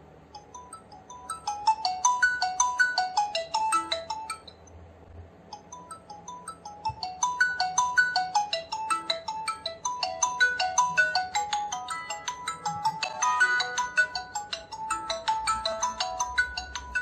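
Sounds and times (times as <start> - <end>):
electronic ringtone melody: 0.4 - 4.6, 5.5 - 17.0.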